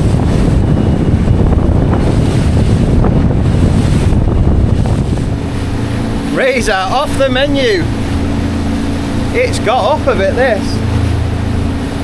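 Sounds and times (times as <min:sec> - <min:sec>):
choppy sea: 0:00.0 - 0:12.0
wind buffeting microphone: 0:00.0 - 0:12.0.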